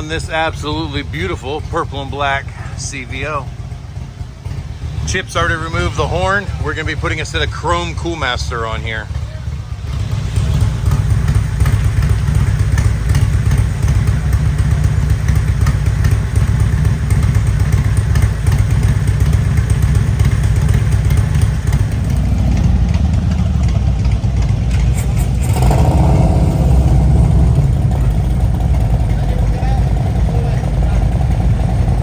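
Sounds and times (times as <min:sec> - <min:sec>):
higher-pitched engine: 0:00.0 - 0:32.0
motorcycle engine idling: 0:00.0 - 0:32.0.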